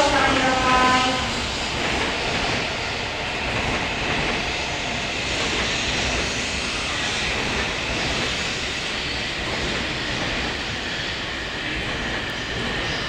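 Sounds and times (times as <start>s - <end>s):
station drone: 0.0s - 13.0s
train equipment humming: 0.0s - 13.0s.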